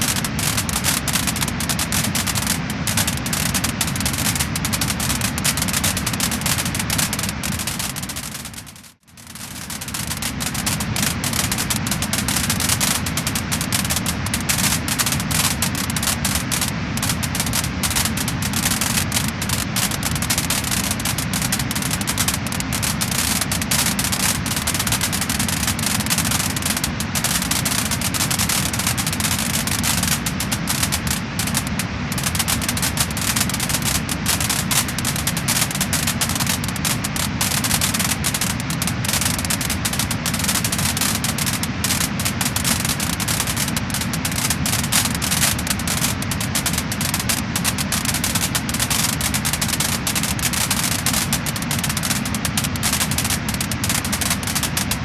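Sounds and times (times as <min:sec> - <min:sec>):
low rumble of fire: 0:00.0 - 0:47.7
wood fire crackling and popping: 0:00.0 - 0:55.0.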